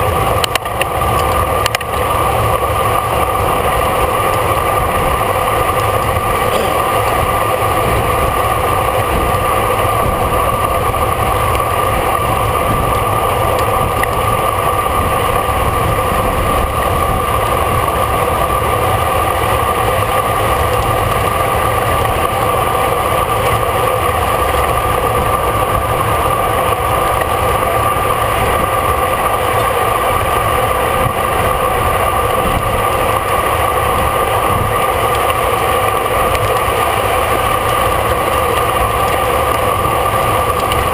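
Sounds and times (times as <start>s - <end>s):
bicycle tyre noise: 0.0s - 40.9s
rushing wind: 0.0s - 40.9s.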